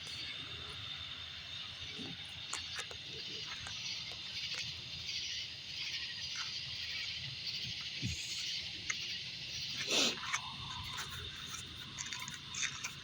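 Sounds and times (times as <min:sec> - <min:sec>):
night insects chorusing: 0:00.0 - 0:13.0.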